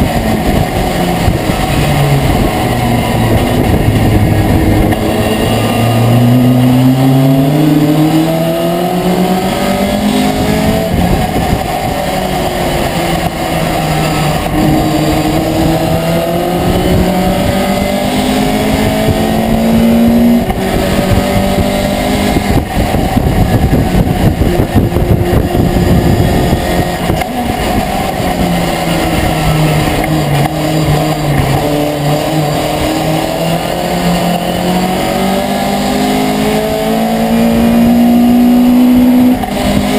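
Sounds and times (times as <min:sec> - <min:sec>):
truck engine at racing speed: 0:00.0 - 0:39.9.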